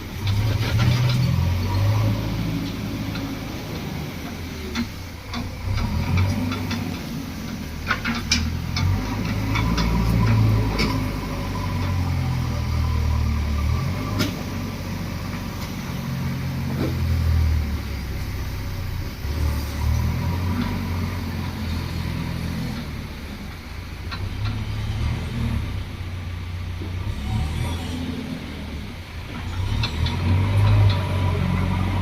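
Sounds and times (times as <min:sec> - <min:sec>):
heavy diesel engines running: 0:00.0 - 0:32.0.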